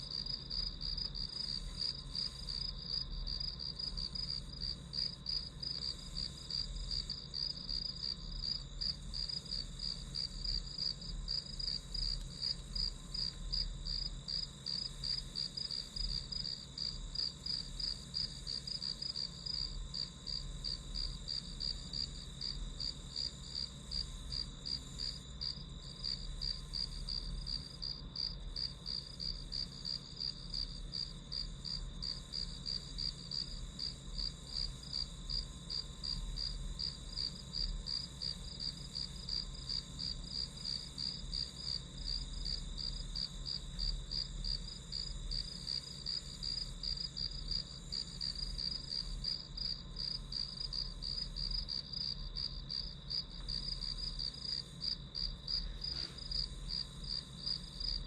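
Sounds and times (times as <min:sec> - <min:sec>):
crickets chirping: 0:00.0 - 0:58.0
insect chorus: 0:00.0 - 0:58.0.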